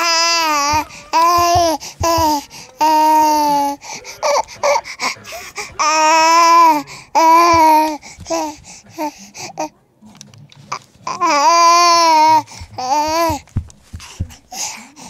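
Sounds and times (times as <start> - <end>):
baby babbling: 0.0 - 9.7, 11.1 - 15.0.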